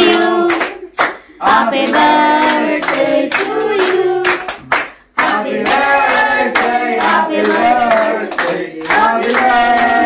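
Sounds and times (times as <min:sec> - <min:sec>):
group singing: 0:00.0 - 0:10.0
people clapping in rhythm: 0:00.0 - 0:10.0.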